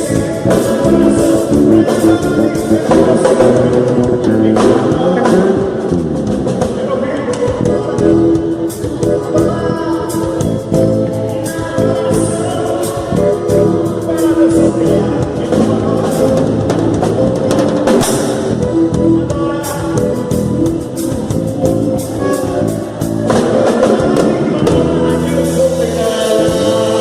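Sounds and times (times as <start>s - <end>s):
drum kit with cymbals: 0.0s - 27.0s
electric bass and guitar: 0.0s - 27.0s
person singing: 0.0s - 27.0s.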